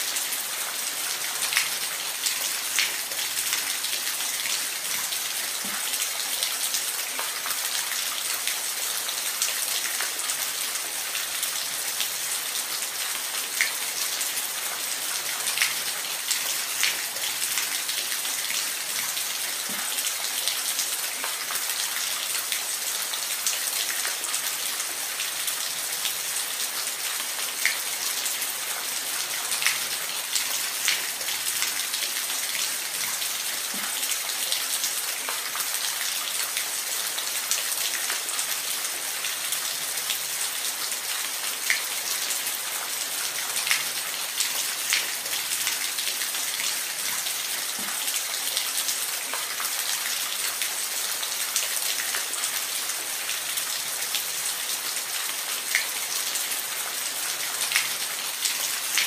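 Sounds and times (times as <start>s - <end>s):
water drips and splashes: 0.0s - 59.0s.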